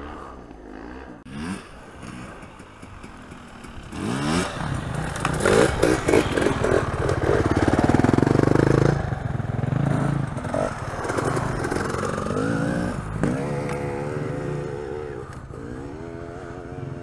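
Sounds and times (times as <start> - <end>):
dirt bike at high revs: 0.0 - 17.0
dirt bike engines revving: 0.0 - 17.0.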